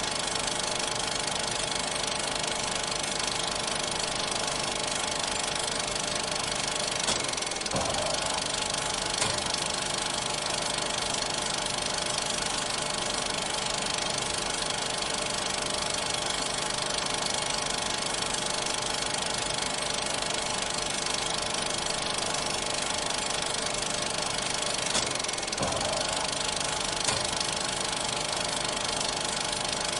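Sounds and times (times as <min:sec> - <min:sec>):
film projector whirr and clatter: 0:00.0 - 0:29.9.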